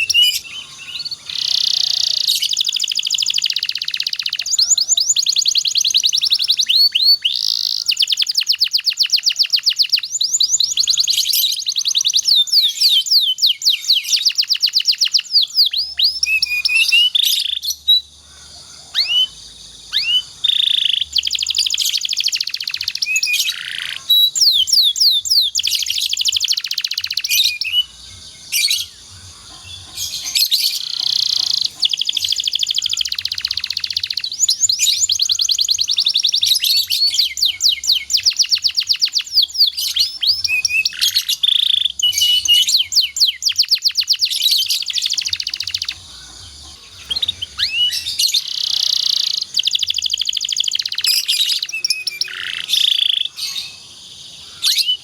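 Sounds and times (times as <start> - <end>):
canary trilling and chirping: 0.0 - 18.2, 18.9 - 53.8.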